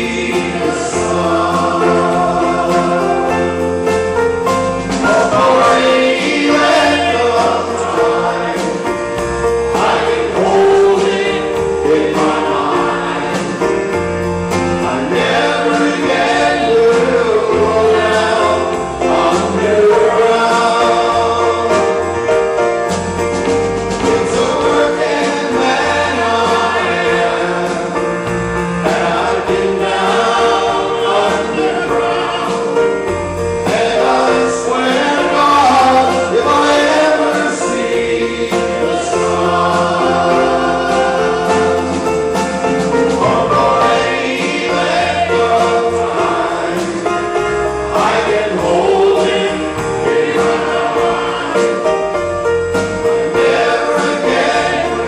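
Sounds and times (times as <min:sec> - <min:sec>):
lead vocalist singing: 0:00.0 - 0:03.9, 0:04.8 - 0:22.4, 0:24.0 - 0:42.5, 0:43.1 - 0:52.2, 0:53.0 - 0:55.0
keyboard: 0:00.0 - 0:55.0
male choir singing: 0:00.0 - 0:55.0.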